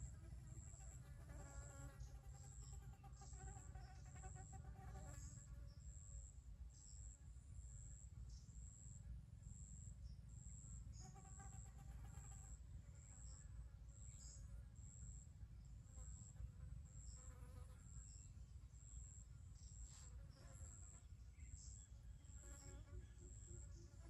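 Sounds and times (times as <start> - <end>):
faint insect chirping: 0.0 - 24.0.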